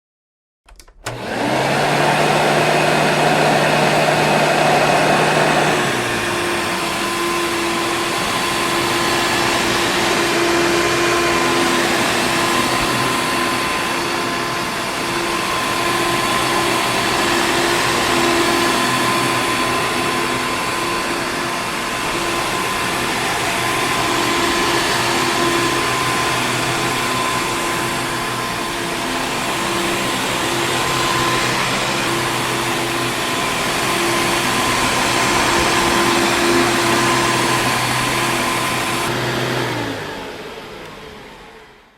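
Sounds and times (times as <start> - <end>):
vacuum cleaner whirring hum: 0.8 - 41.9.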